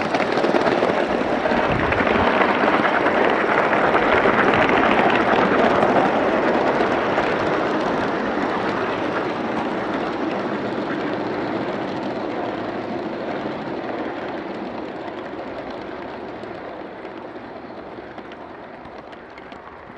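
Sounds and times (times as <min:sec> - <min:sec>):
model train wheels clattering on track: 0:00.0 - 0:19.9.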